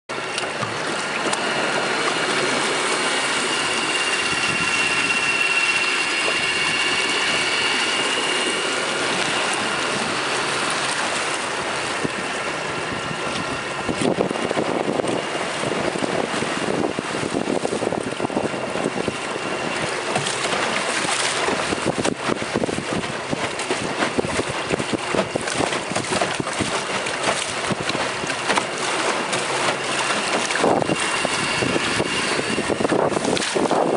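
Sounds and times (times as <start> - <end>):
water rushing along boat hull: 0.1 - 33.9
wind buffeting microphone: 0.1 - 33.9
electric motor whine: 0.2 - 33.9.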